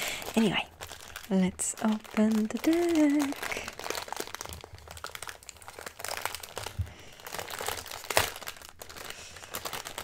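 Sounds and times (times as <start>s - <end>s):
plastic bag crinkling: 0.0s - 10.0s
sharp plastic crack: 0.2s - 10.0s.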